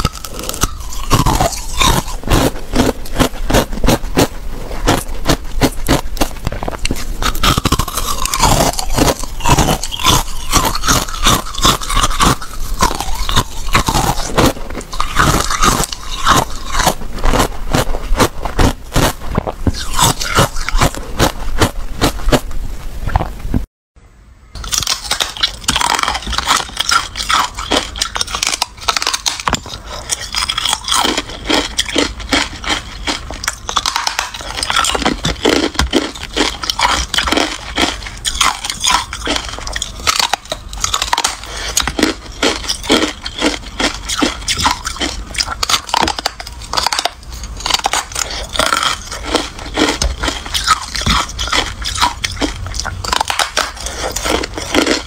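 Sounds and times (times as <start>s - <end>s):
chewing crunchy ice: 0.0s - 22.5s, 24.6s - 55.0s.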